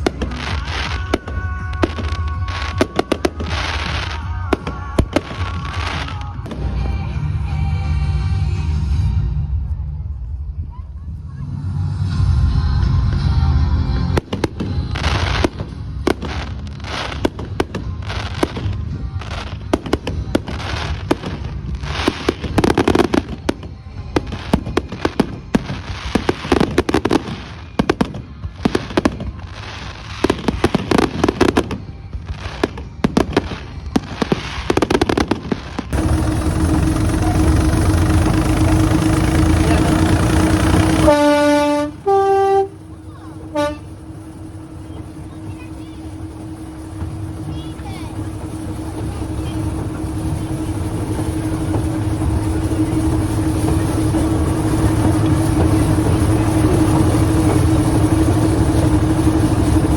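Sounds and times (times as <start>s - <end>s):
fireworks bangs and crackles: 0.0s - 7.5s, 13.0s - 59.9s
rumbling hum with low drone: 0.0s - 59.9s.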